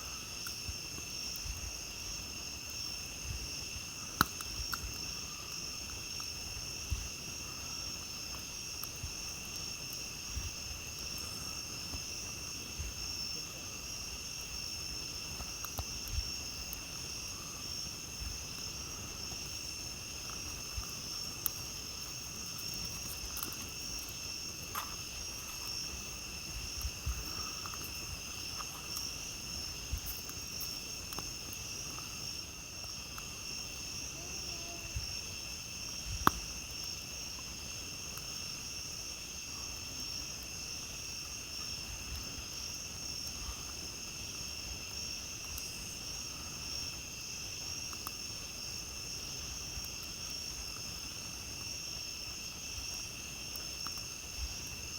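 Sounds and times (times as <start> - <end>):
campfire crackles and pops: 0.0 - 54.9
night insects chorus: 0.0 - 54.9.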